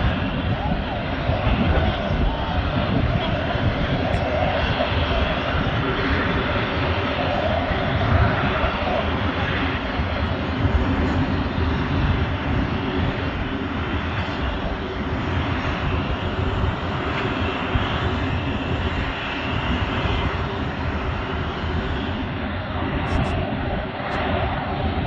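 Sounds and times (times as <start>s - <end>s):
jet turbine rushing: 0.0s - 25.0s.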